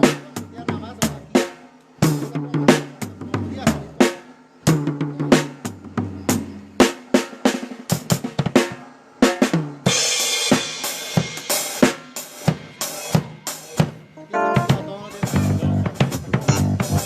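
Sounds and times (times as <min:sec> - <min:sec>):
drum kit playing: 0:00.0 - 0:17.0.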